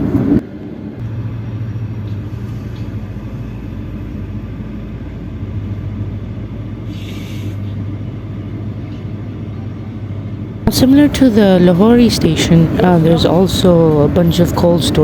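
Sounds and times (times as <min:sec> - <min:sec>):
train humming and rumbling: 0:00.0 - 0:15.0.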